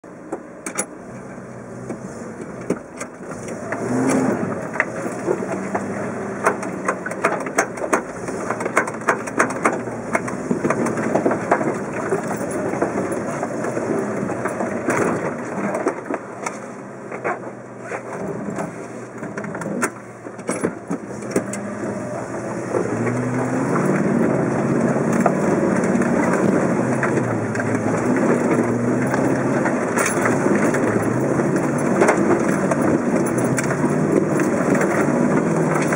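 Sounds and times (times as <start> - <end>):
engine working at low revs: 0.9 - 16.1, 16.8 - 35.9
rocks knocking under tyres: 1.9 - 16.6, 19.2 - 35.9.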